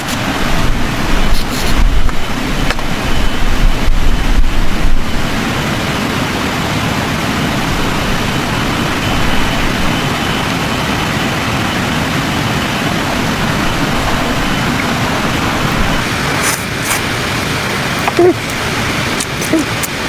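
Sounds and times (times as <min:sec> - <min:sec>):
wind buffeting microphone: 0:00.0 - 0:06.2, 0:07.2 - 0:20.0.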